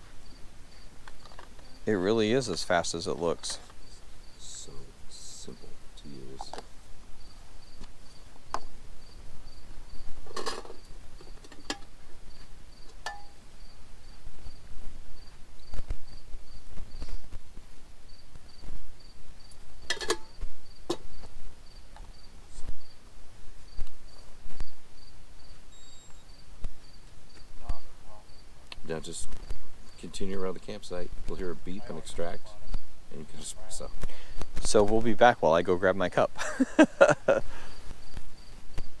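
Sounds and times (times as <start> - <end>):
insect chirping: 0.1 - 17.3, 18.0 - 34.6, 36.4 - 39.0.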